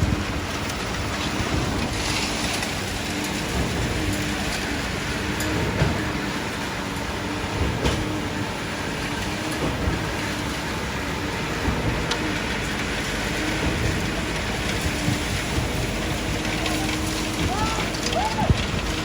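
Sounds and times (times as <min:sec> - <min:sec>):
concrete rushing noise: 0:00.0 - 0:19.0.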